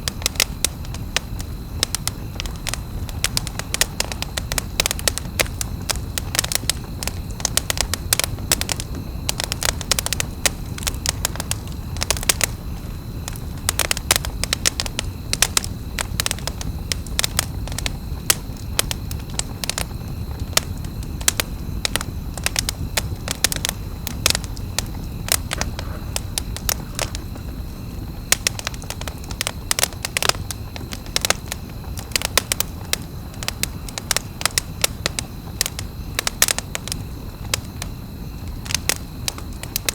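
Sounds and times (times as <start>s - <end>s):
campfire crackling and popping: 0.0s - 39.9s
low rush of burning fire: 0.0s - 39.9s.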